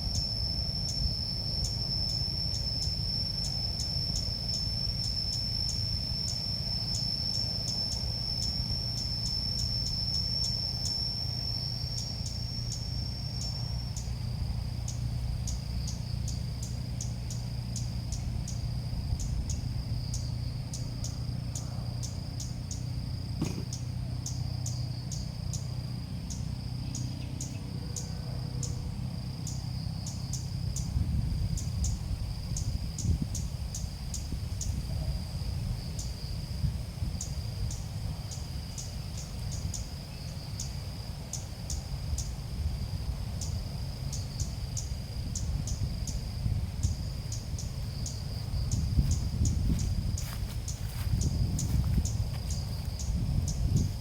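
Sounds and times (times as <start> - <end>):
high-pitched insect-like chirring: 0.0 - 34.8, 43.4 - 54.0
low steady hum: 0.0 - 54.0.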